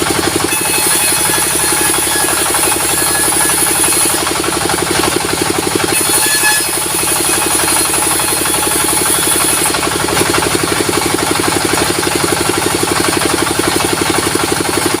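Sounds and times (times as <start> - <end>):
diesel engine pulsing: 0.0 - 15.0.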